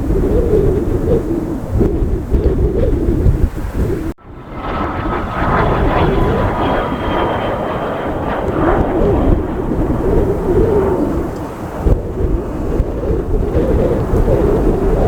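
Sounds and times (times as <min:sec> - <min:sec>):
aircraft engines whining: 0:00.0 - 0:15.0
wind rumble on microphone: 0:00.0 - 0:15.0.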